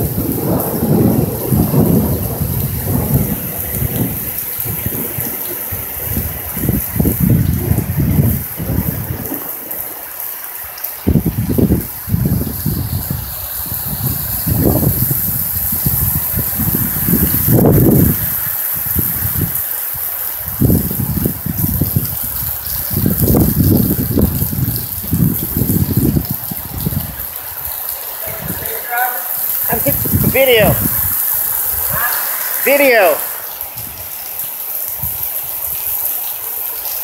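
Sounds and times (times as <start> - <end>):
heavy rain falling: 0.0 - 37.0
thunder rumbling: 0.0 - 37.0.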